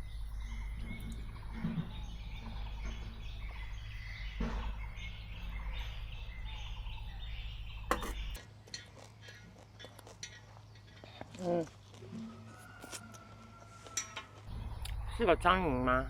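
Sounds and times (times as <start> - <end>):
steady low hum: 0.0 - 11.4, 14.4 - 16.0
birds chirping: 0.0 - 16.0.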